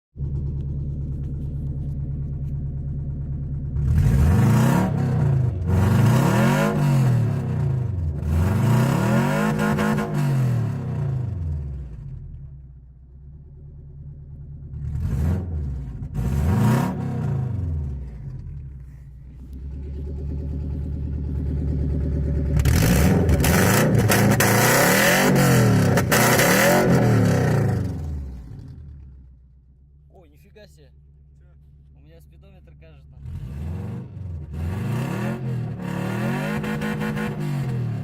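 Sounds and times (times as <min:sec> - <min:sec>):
car engine revving: 0:00.2 - 0:29.5, 0:30.5 - 0:38.0.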